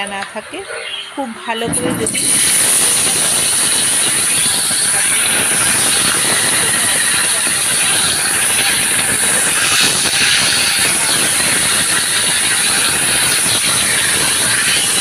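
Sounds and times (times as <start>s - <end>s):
fish sizzling in hot oil: 2.0s - 15.0s.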